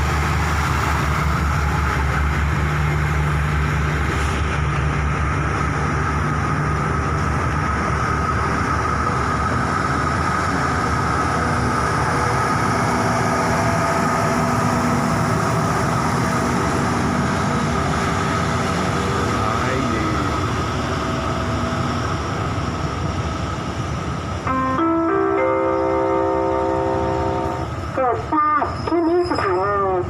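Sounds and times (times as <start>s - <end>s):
diesel train engine hum: 0.0s - 30.0s.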